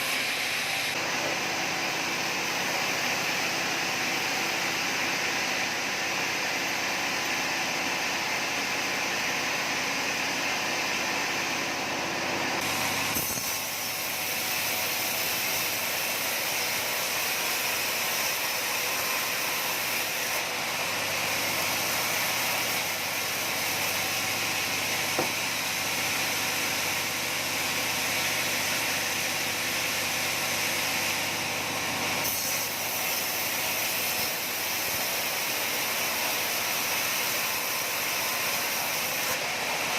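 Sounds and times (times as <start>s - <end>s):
saw cutting through wood: 0.0s - 10.3s, 12.5s - 39.9s.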